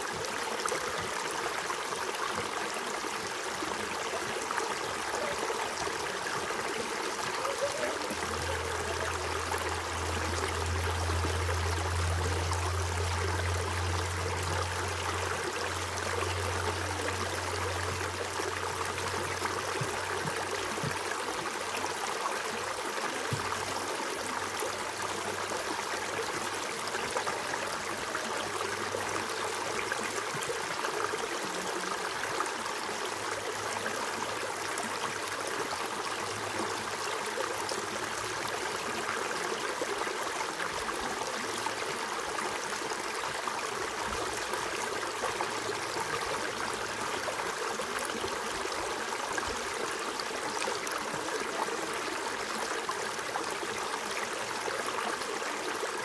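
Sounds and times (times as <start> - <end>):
creek water splashing over stones: 0.0 - 56.0.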